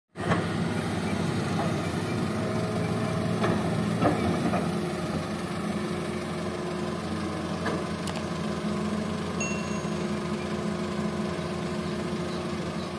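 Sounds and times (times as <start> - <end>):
excavator diesel engine running: 0.2 - 12.9.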